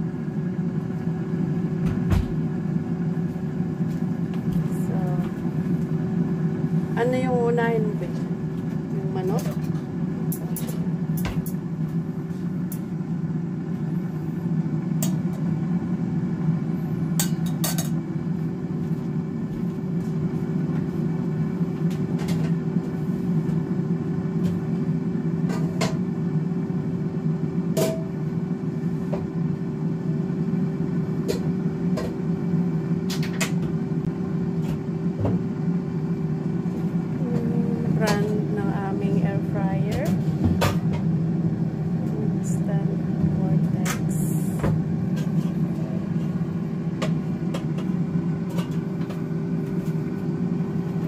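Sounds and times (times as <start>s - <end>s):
air fryer fan humming: 0.0s - 51.0s.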